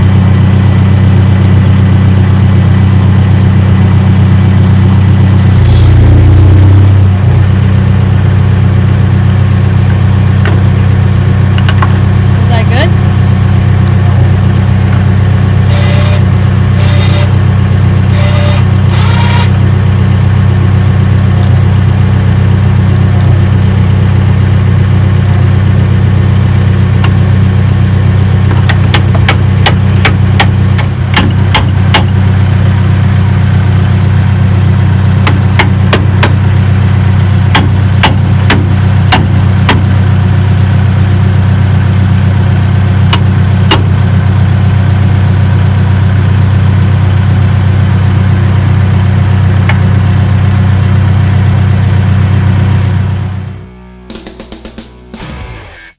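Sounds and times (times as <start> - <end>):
large engine idling: 0.0 - 53.8.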